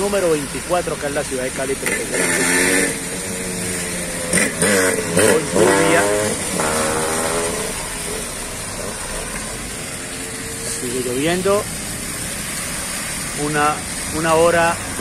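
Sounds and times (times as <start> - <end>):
cars driving on wet road: 0.0 - 15.0.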